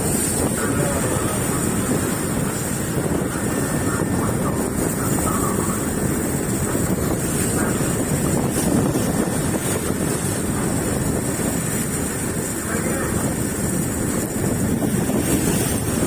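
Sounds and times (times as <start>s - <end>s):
boat engine running: 0.0s - 16.0s
wind buffeting microphone: 0.0s - 16.0s.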